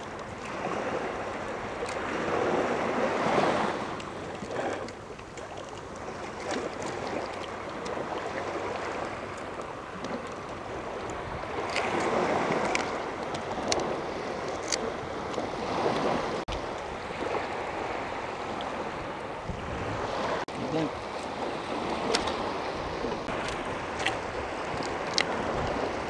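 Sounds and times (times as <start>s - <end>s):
sea waves on sandy shore: 0.0s - 26.0s.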